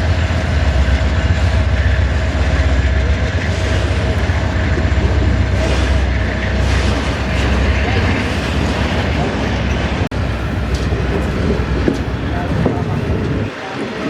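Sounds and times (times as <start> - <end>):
rail noise: 0.0 - 14.0
train passing: 0.0 - 14.0.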